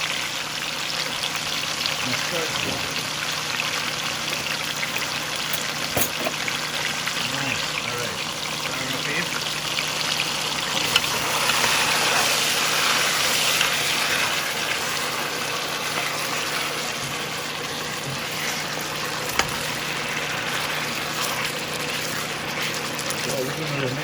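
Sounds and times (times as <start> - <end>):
chicken sizzling in a pot: 0.0 - 24.0.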